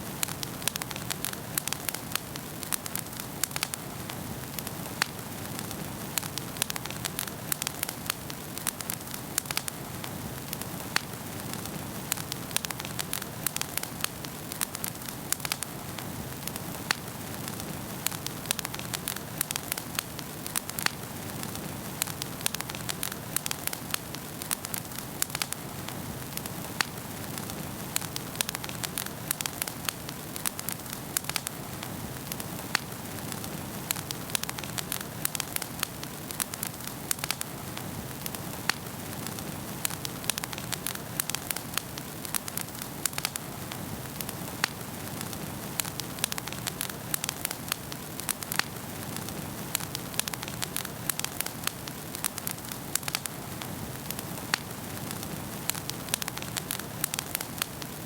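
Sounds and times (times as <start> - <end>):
fire crackling and popping: 0.0 - 58.0
wood fire hissing: 0.0 - 58.0.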